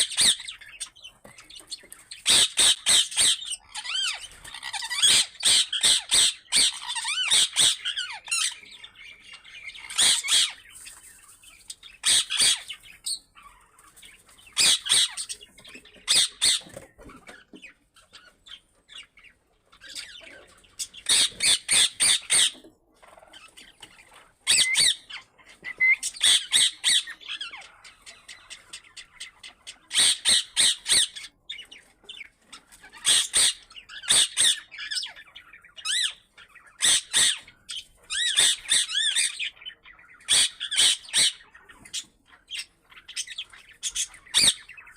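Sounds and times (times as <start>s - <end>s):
birds squawking: 0.0s - 44.9s.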